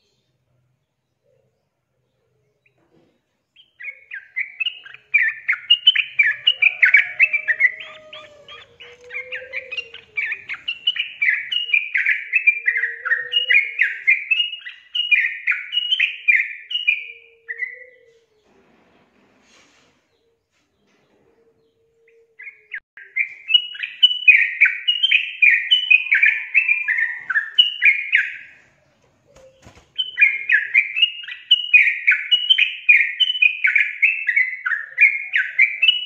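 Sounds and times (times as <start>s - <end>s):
bird singing chirping notes: 3.5s - 18.3s, 21.6s - 36.0s.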